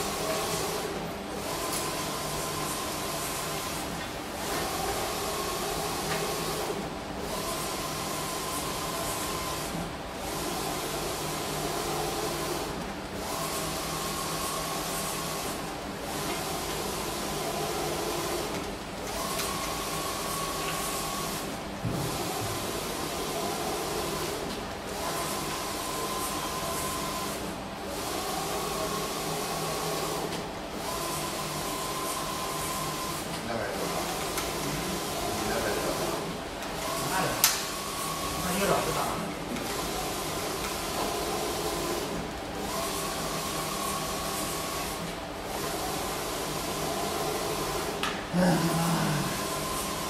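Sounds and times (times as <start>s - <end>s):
machine humming and hissing: 0.0s - 50.0s.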